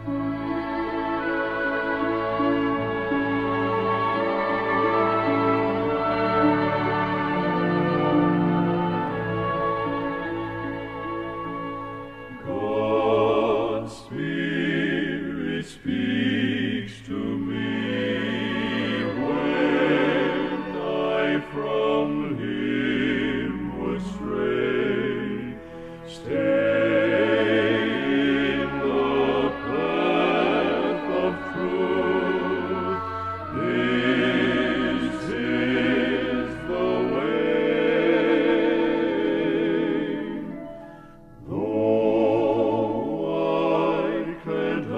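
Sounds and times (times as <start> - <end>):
male quartet singing in harmony: 0.0 - 44.9.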